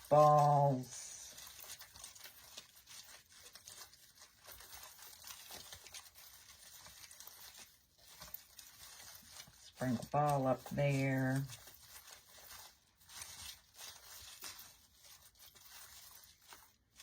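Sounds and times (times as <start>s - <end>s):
artificial greenery rustling and crinkling: 0.0s - 17.0s.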